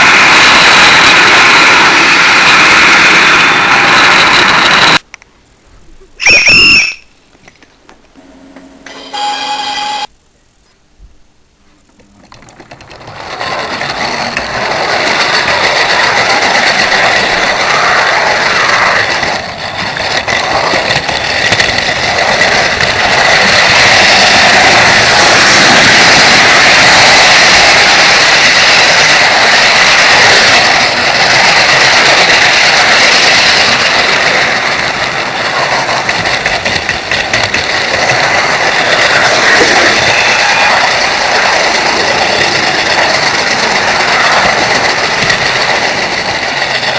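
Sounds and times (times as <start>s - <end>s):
wheels rattling on rails: 0.0s - 5.2s, 6.2s - 10.1s, 11.8s - 46.9s
thin steady whine: 5.8s - 12.0s, 12.9s - 46.9s.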